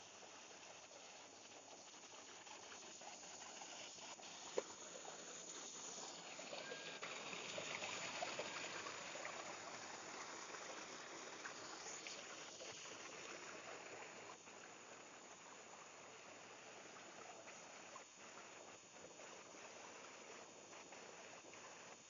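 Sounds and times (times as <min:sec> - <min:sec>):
stream splashing over boulders: 0:00.0 - 0:21.6.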